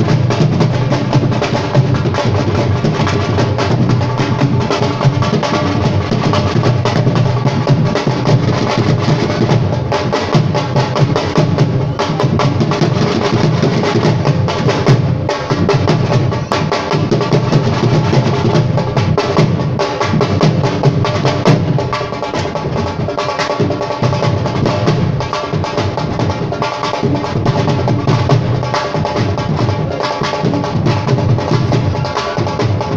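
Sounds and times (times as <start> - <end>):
fast dense drumming: 0.0 - 32.9.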